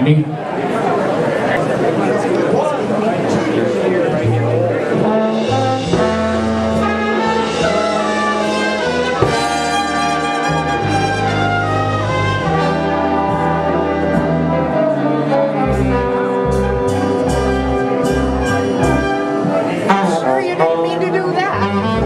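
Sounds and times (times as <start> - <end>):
brass instrumental music: 3.6 - 22.0.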